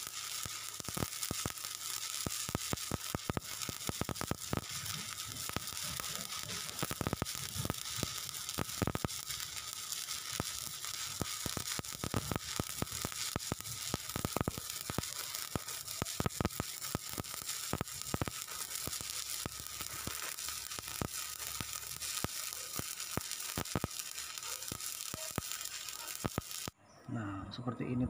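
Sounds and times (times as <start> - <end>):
welding arc crackling and popping: 0.0 - 26.8.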